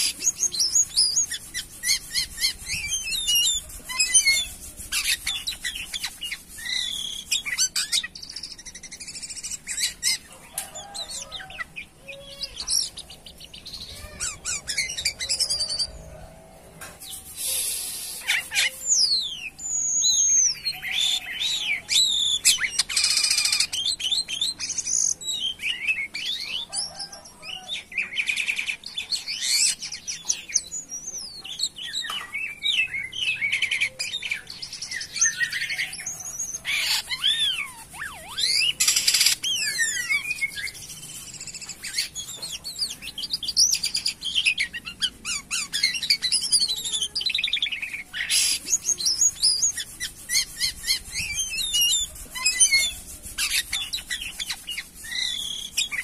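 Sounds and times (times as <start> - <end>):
starling singing: 0.0 - 16.3, 17.0 - 56.0.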